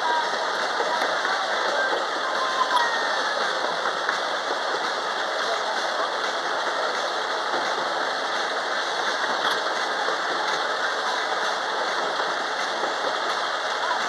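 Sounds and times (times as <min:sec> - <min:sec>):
ride train rattling: 0:00.0 - 0:14.0.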